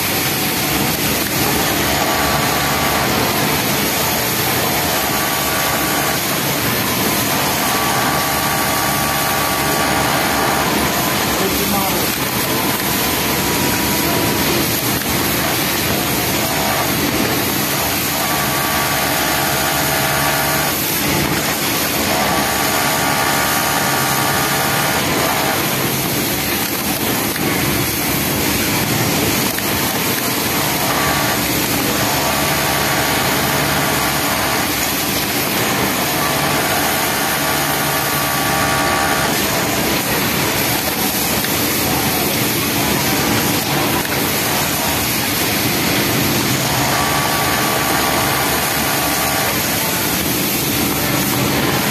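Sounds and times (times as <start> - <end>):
sewing machine whine: 0.0 - 51.9
steady machine din: 0.0 - 51.9.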